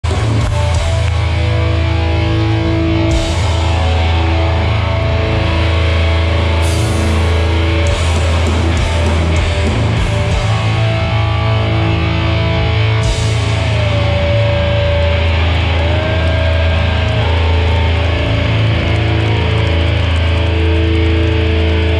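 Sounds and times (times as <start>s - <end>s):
hardcore band playing loud: 0.0s - 21.9s.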